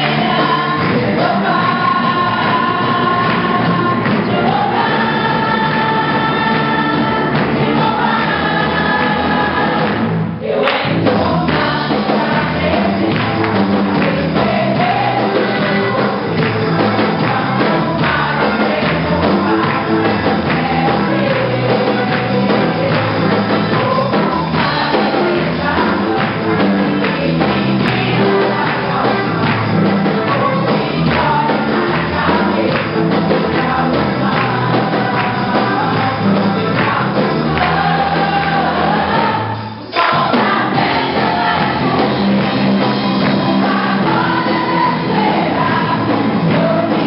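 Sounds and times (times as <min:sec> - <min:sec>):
group singing gospel song: 0:00.0 - 0:47.0
instrumental accompaniment with beat: 0:00.0 - 0:47.0.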